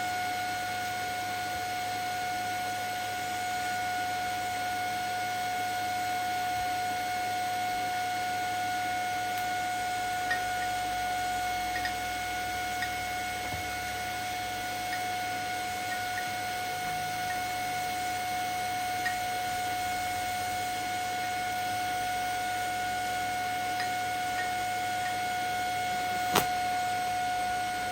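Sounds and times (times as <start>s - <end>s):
welding arc whine and hiss: 0.0s - 27.9s.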